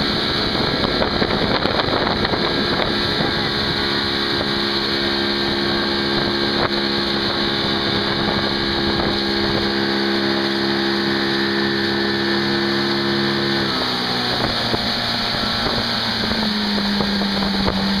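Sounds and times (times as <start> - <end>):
motorboat engine running: 0.0 - 18.0
rush of boat wake: 0.0 - 18.0
wind: 0.0 - 18.0.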